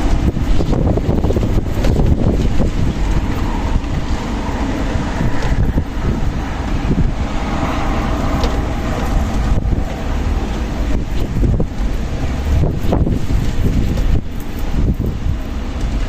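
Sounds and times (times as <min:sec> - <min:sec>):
strong wind blowing: 0:00.0 - 0:16.0
wind buffeting microphone: 0:00.0 - 0:16.0.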